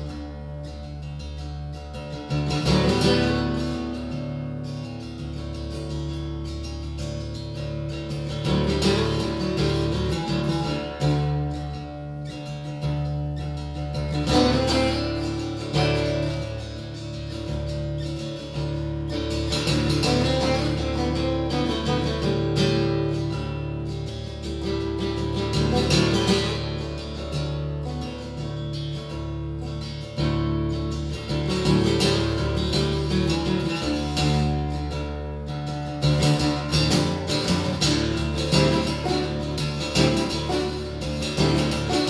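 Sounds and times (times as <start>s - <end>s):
acoustic guitar playing: 0.0s - 42.0s.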